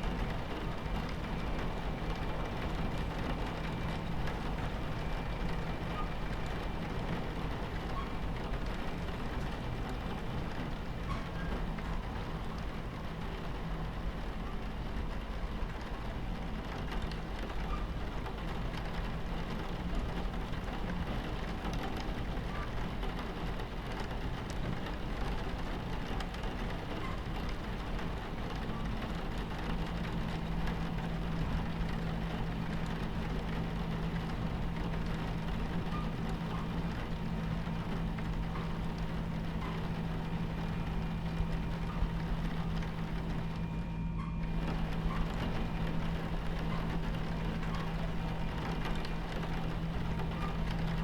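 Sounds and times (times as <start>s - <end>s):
low steady hum: 0.0s - 51.0s
rain pattering on window: 0.0s - 51.0s
train rumble inside carriage: 0.0s - 51.0s.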